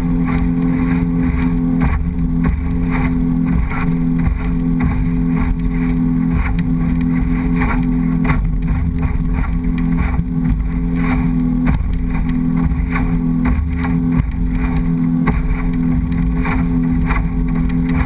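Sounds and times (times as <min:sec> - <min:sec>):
hull knocking on chop: 0:00.0 - 0:18.0
motorboat engine drone: 0:00.0 - 0:18.0
wind and water rushing: 0:00.0 - 0:18.0.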